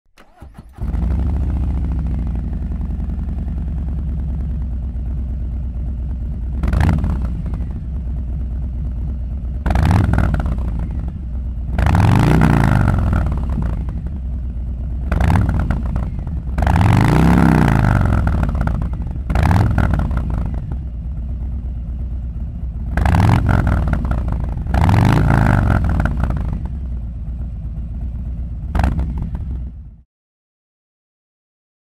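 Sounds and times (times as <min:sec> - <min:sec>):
motorcycle engine idling and revving: 0:00.2 - 0:30.1.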